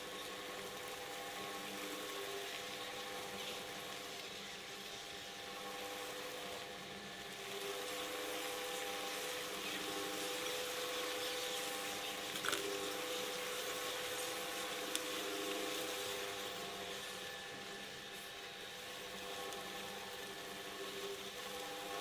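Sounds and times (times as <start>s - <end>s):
electric shredder motor humming: 0.0s - 22.0s.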